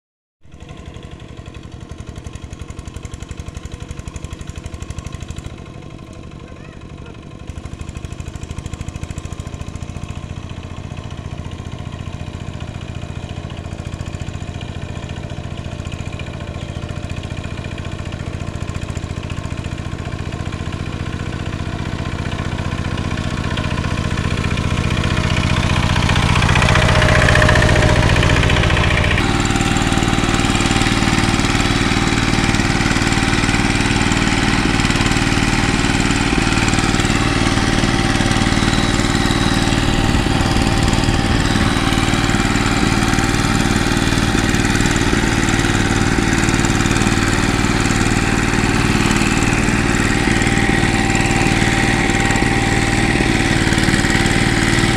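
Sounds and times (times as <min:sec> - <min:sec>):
diesel tractor engine under load: 0:00.5 - 0:54.9.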